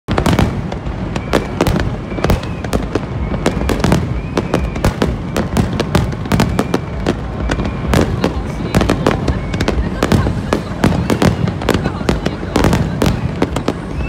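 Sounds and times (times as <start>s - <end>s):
fireworks bangs and crackles: 0.1s - 14.0s.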